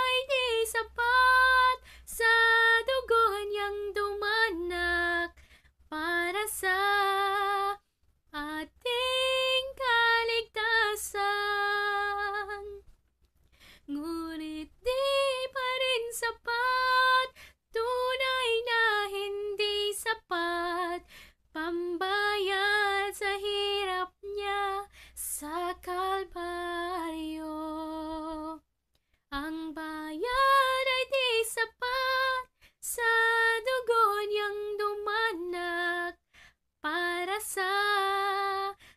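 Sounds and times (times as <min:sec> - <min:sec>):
woman singing unaccompanied: 0:00.0 - 0:12.9, 0:13.9 - 0:28.6, 0:29.3 - 0:36.2, 0:36.8 - 0:38.8.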